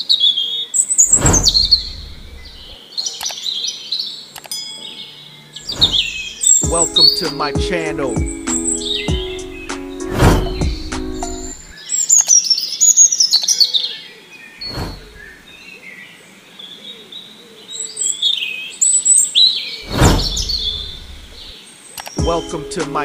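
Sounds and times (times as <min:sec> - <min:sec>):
birds chirping and twittering: 0:00.0 - 0:23.0.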